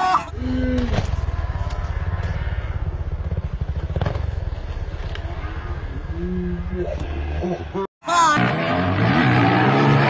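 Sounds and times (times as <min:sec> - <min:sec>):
dirt bike engines running: 0:00.0 - 0:10.0.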